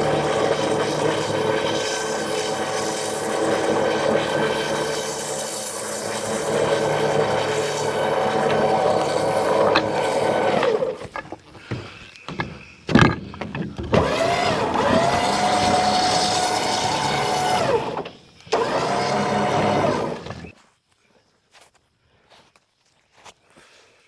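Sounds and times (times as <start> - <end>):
chainsaw cutting log: 0.0 - 20.5.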